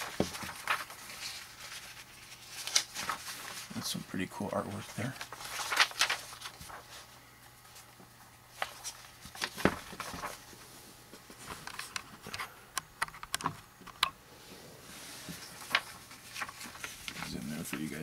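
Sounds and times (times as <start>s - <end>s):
paper rustling: 0.0s - 12.6s, 14.9s - 18.0s.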